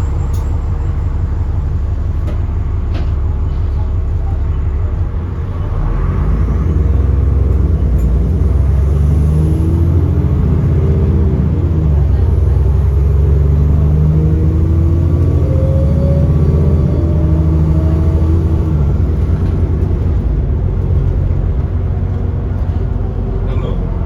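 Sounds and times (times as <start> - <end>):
bus diesel engine accelerating: 0.0 - 24.0.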